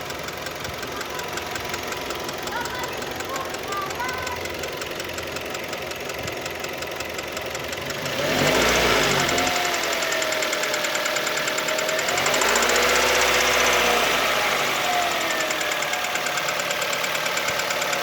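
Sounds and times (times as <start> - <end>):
car engine running: 0.0 - 18.0
engine knocking: 0.0 - 18.0.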